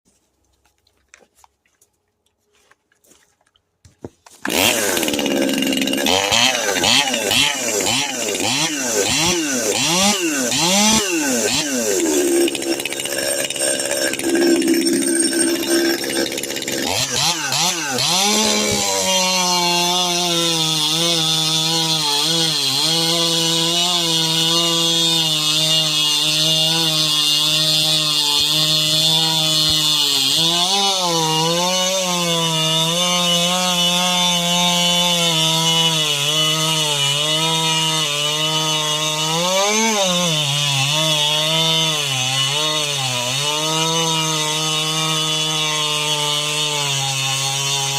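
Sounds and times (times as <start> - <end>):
chainsaw cutting wood: 4.3 - 47.9.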